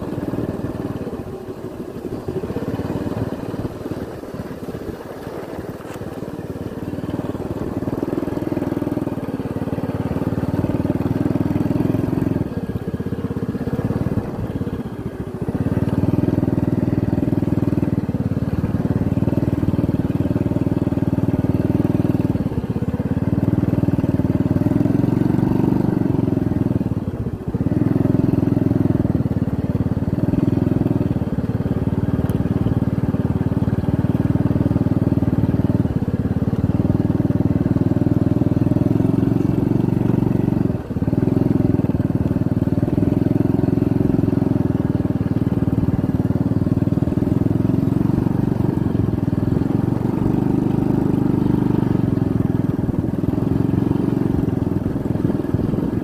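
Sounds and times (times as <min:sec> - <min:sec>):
small motorcycle engine: 0:00.0 - 0:56.0.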